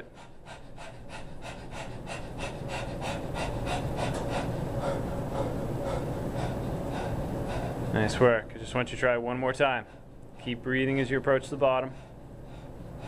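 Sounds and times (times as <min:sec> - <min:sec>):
man panting hard: 0:00.0 - 0:08.2, 0:09.6 - 0:10.6, 0:11.6 - 0:13.0.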